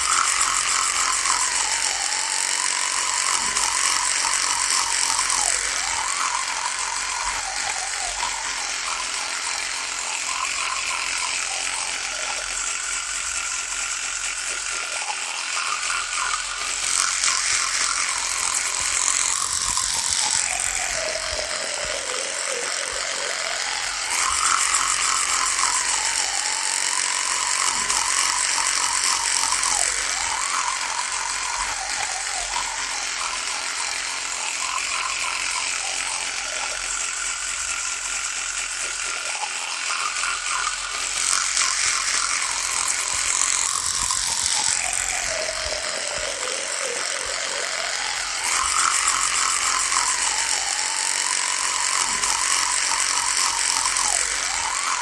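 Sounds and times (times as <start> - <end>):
electric toothbrush buzzing: 0.0 - 55.0.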